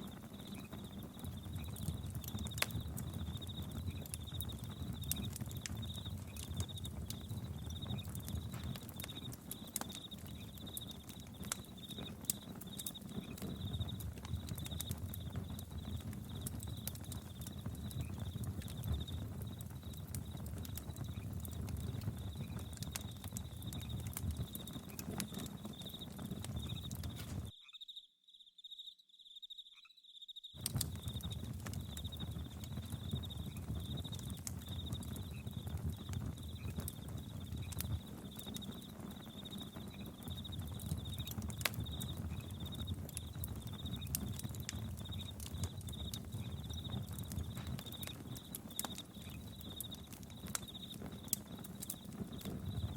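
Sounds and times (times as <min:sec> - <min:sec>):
campfire crackling and popping: 0:00.0 - 0:27.5, 0:30.6 - 0:52.9
crickets chirping: 0:00.0 - 0:52.9.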